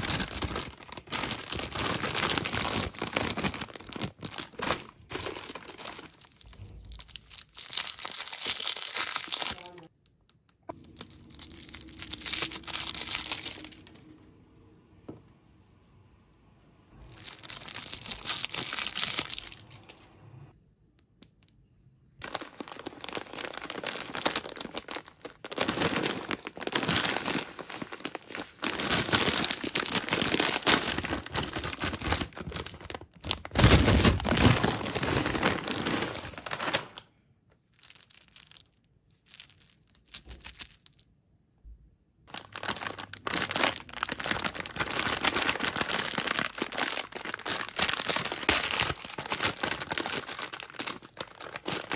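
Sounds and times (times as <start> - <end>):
plastic wrappers crinkling: 0.0 - 14.2, 17.0 - 20.0, 22.2 - 41.1, 42.3 - 51.9.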